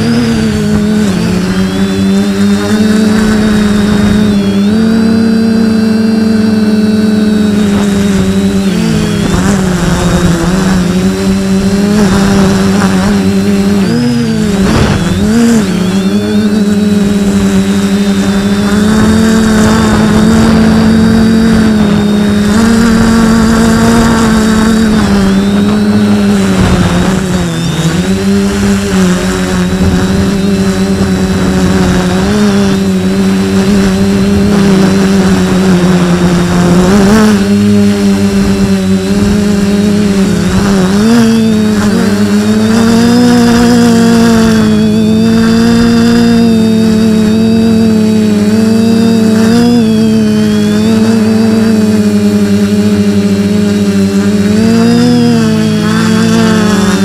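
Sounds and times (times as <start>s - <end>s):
drone motors buzzing: 0.0s - 57.0s.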